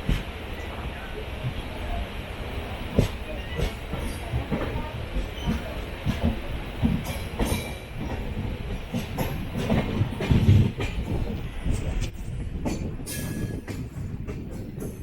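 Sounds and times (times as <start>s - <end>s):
train rumbling on track: 0.0s - 15.0s
train wheels clattering: 2.9s - 15.0s.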